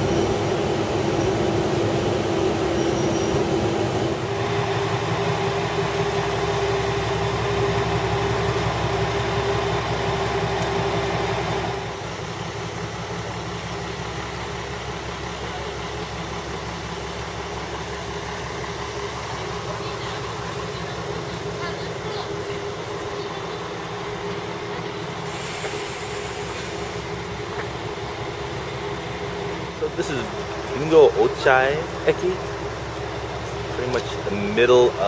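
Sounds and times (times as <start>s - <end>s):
diesel railcar engine hum: 0.0s - 35.0s
rail noise: 0.0s - 35.0s.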